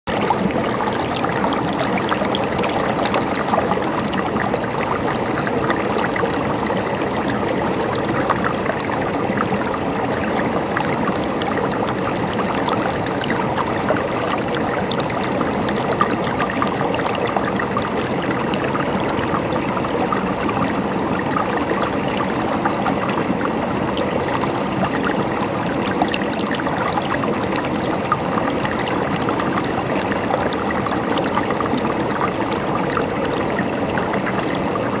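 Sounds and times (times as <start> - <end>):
stream water flowing: 0.1 - 35.0.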